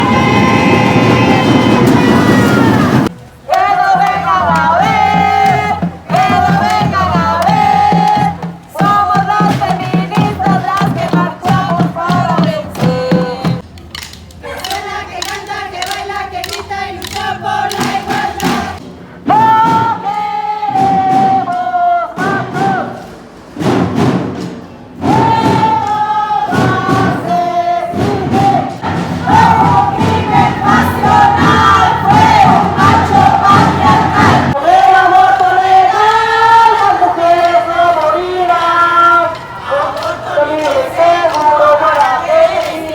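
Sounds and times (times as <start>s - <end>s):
women singing and chanting: 0.0s - 23.2s, 25.0s - 42.9s
thumping beat: 3.9s - 20.0s, 23.6s - 42.9s.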